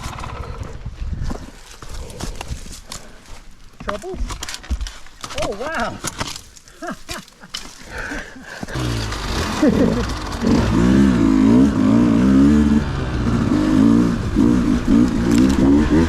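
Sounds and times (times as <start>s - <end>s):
dirt bike engine revving: 2.6s - 16.0s.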